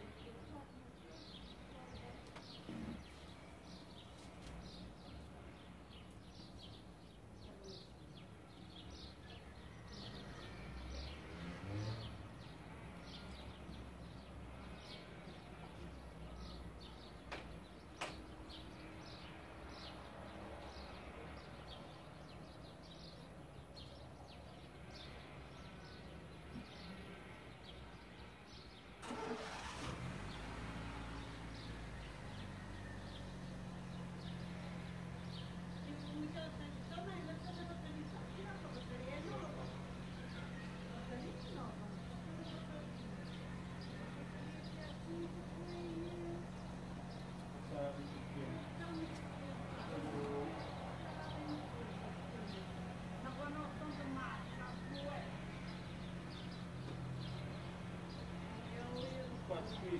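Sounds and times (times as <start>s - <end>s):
low rumble of traffic: 0.0s - 59.9s.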